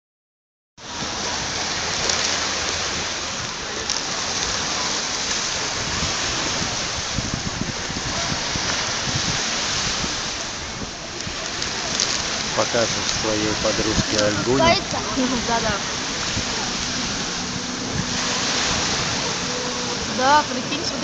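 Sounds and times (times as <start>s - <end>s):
surf: 0.8s - 21.0s
wind: 0.8s - 21.0s
wind rumble on microphone: 0.8s - 21.0s.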